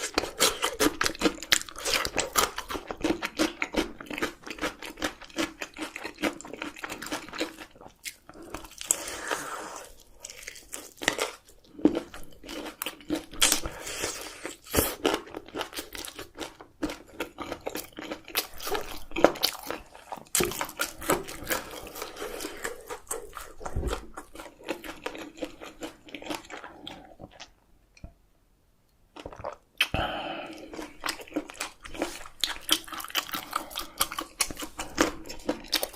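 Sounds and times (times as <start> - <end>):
close chewing and crunching: 0.0 - 27.6, 29.2 - 35.9.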